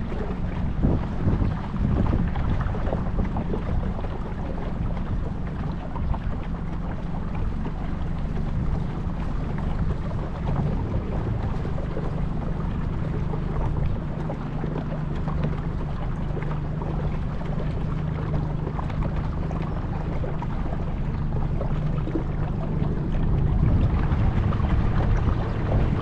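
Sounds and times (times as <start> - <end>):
motor boat engine humming: 0.0 - 26.0
water noise: 0.0 - 26.0
wind: 0.0 - 26.0.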